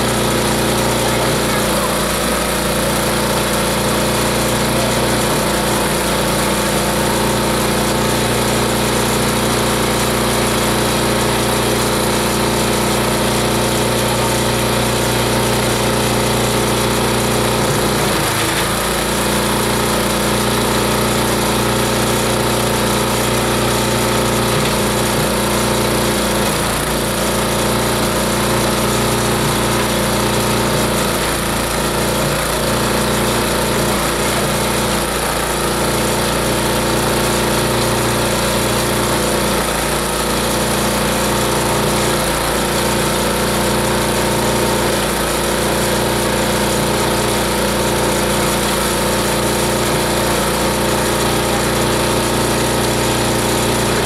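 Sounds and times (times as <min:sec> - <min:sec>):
shredder machine droning: 0:00.0 - 0:54.0.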